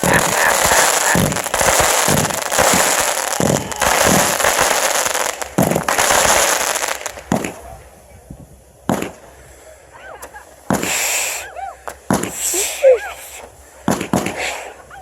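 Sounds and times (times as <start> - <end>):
fireworks booms: 0.0 - 9.4, 10.2 - 12.7, 13.9 - 14.7
fireworks crackling: 0.0 - 15.0.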